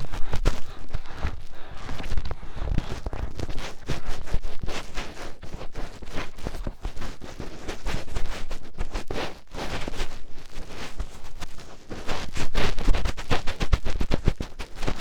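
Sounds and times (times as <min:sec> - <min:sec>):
fingertip rubbing on microphone: 0:00.0 - 0:15.0.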